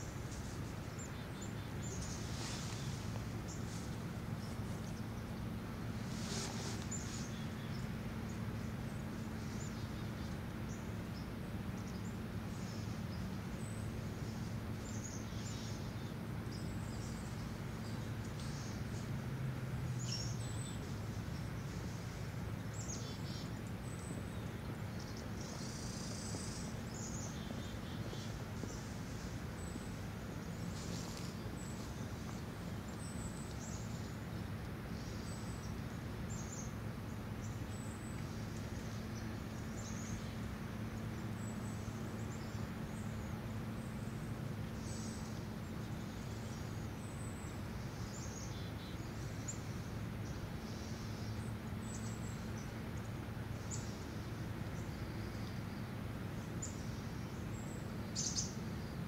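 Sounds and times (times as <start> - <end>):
faint hum: 0.0 - 59.0
small birds chirping: 0.0 - 59.0.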